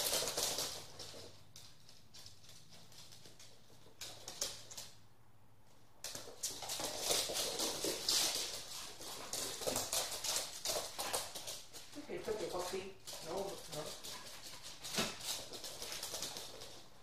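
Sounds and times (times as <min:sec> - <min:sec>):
dogs pattering and scuffling: 0:00.0 - 0:17.0.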